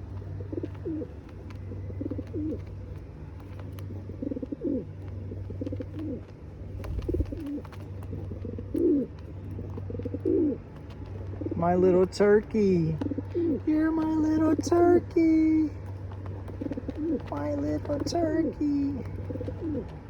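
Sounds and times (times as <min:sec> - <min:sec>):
pigeon cooing: 0:00.0 - 0:20.0
steady low hum: 0:00.0 - 0:20.0.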